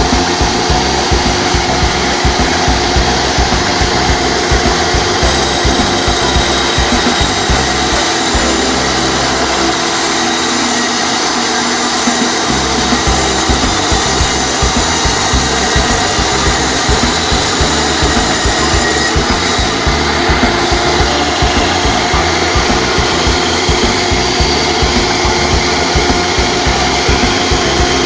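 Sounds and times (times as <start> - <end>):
background music with low beat: 0.0 - 28.0
power tool whirring: 0.0 - 28.0.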